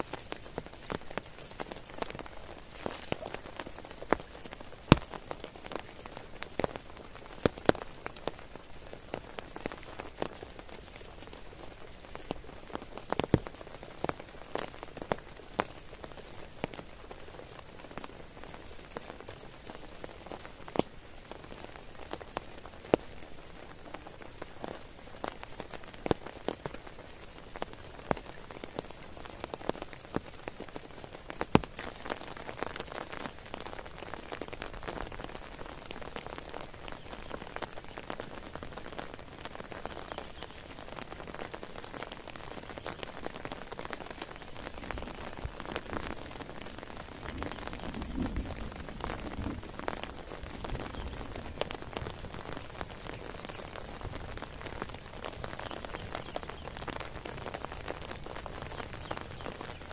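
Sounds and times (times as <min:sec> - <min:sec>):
insects trilling: 0:00.0 - 0:59.9
rain dripping and tapping: 0:00.0 - 0:59.9.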